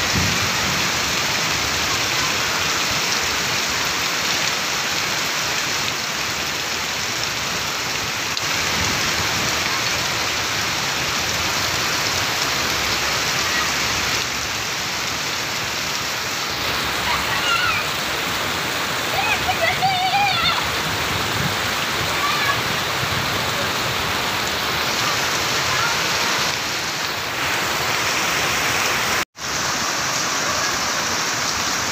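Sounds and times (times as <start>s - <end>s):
heavy rain on flooded ground: 0.0s - 31.9s.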